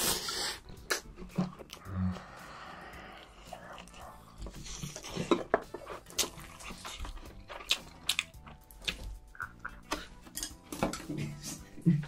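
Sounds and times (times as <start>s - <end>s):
soft background music: 0.0s - 12.0s
wet chewing and mouth clicks: 0.4s - 10.4s.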